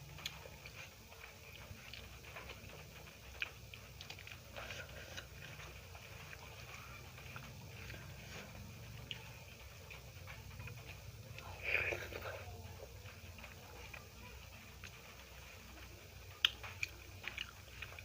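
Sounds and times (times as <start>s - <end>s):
low steady hum: 0.0s - 18.0s
person chewing food: 0.0s - 18.0s.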